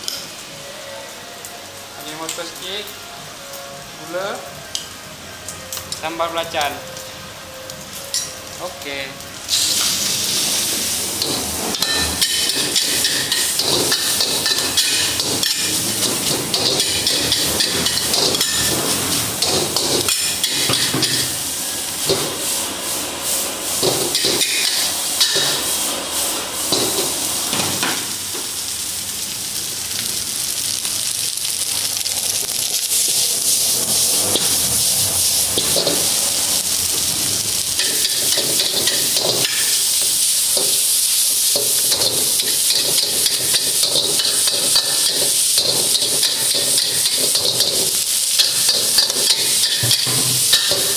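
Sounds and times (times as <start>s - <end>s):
rice sizzling in a wok: 0.0s - 50.9s.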